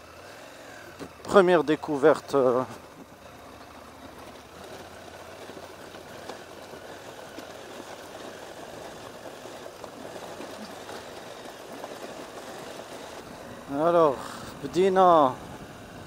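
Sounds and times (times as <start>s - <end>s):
muffled motorcycle engine: 0.0s - 16.0s
tyre noise: 0.7s - 16.0s.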